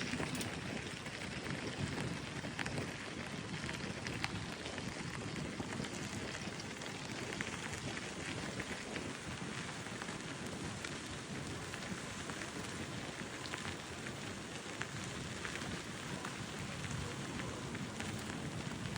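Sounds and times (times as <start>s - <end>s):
bicycle tyres rolling on path: 0.0s - 18.9s
wind on microphone: 0.0s - 18.9s.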